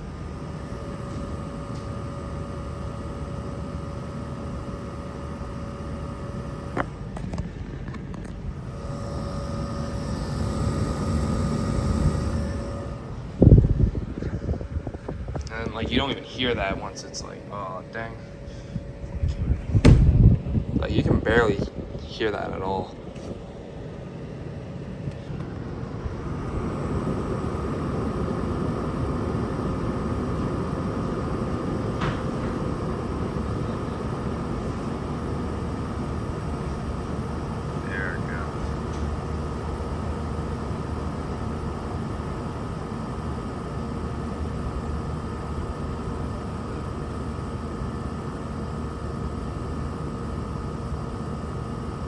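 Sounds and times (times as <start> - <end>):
air conditioner humming: 0.0 - 52.0
compressor whine: 0.0 - 52.0
faint steady tones: 8.4 - 19.3, 20.8 - 52.0.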